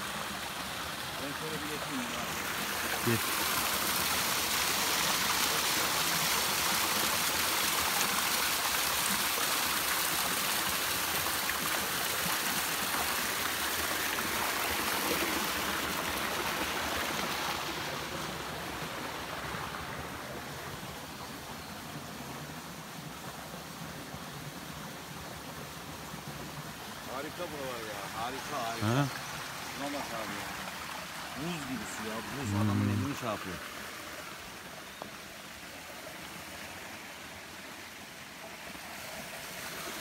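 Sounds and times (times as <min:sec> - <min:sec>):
mountain stream rushing: 0:00.0 - 0:40.0.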